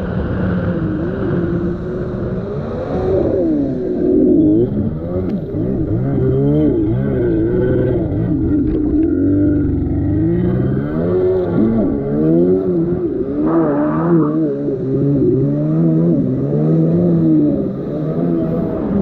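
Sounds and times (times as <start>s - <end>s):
jet ski engine revving: 0.1s - 19.0s.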